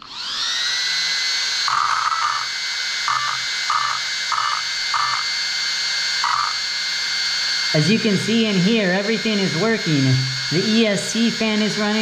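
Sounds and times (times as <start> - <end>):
electric cooling fans whining: 0.0 - 12.0
short buzzing tones: 1.7 - 12.0.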